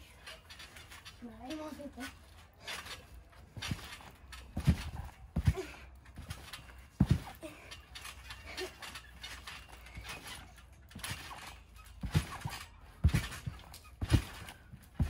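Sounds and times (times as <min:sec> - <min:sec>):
trampoline springs creaking: 0:00.0 - 0:15.0
feet thudding on trampoline: 0:00.1 - 0:15.0.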